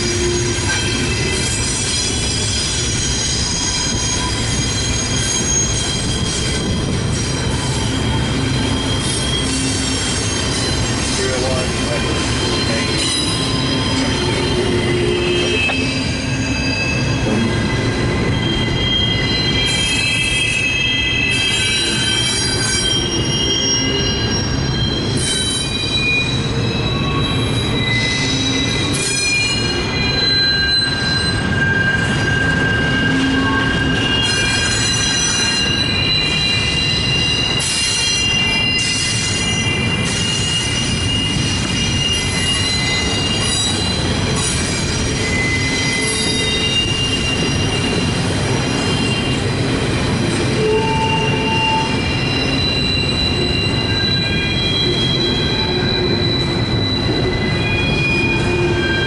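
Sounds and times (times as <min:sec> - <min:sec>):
freight train rumbling past: 0:00.0 - 0:59.0
train wheels squealing: 0:00.0 - 0:59.0.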